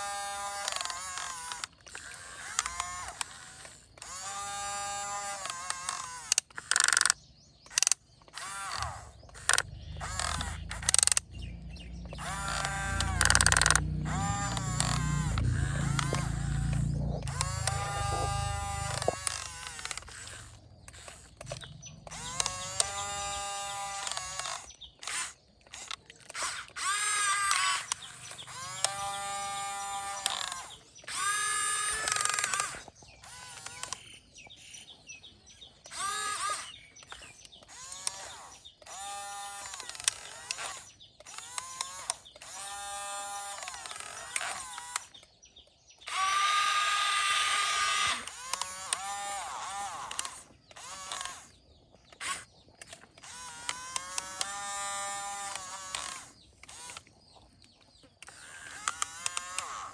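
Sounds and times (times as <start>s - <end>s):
small electric motors whining: 0.0s - 34.8s, 35.6s - 59.9s.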